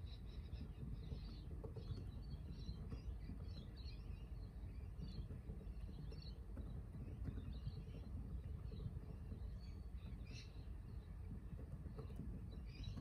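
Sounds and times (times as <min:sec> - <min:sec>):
birds chirping and twittering: 0:00.0 - 0:13.0
low steady background rumble: 0:00.0 - 0:13.0.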